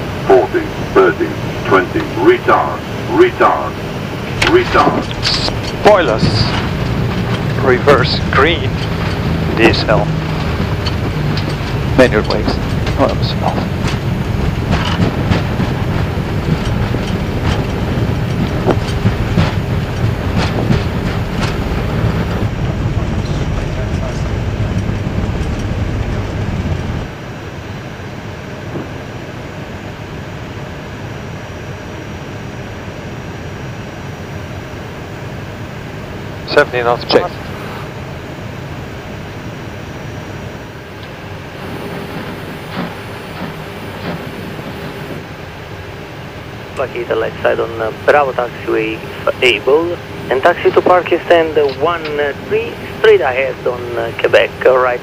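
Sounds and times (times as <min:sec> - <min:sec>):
jet engines in reverse thrust: 0:00.0 - 0:55.0
wheels rumbling on runway: 0:00.0 - 0:55.0.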